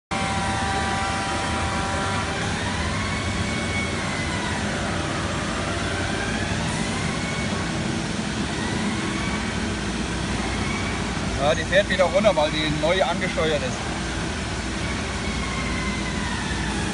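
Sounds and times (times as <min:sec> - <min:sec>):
machine motor whine: 0:00.1 - 0:16.9.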